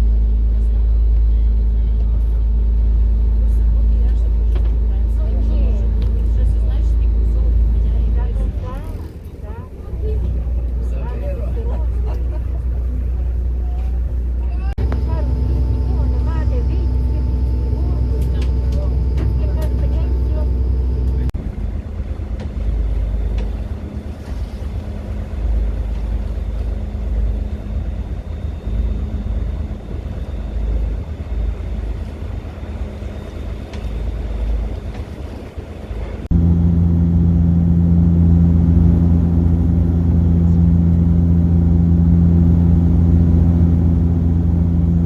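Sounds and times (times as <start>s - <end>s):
boat engine droning: 0.0s - 45.0s
low uneven rumble: 0.0s - 45.0s.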